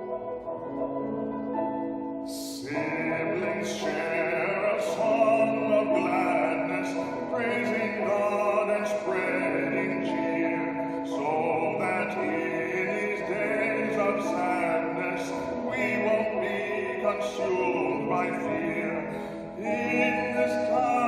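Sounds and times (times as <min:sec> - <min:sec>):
slow sacred music: 0:00.0 - 0:21.0.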